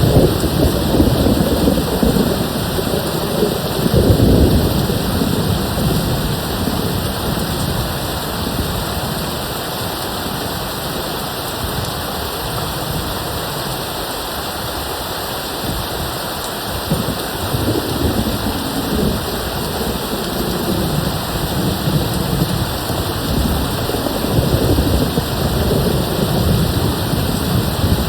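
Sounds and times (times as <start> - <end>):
low rumble of thunder: 0.0 - 13.9, 16.8 - 28.0
heavy rain hissing: 0.0 - 28.0.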